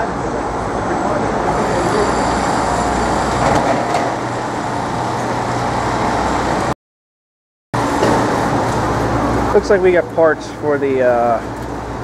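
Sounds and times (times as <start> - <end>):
city traffic noise: 0.0 - 6.8, 7.8 - 12.0.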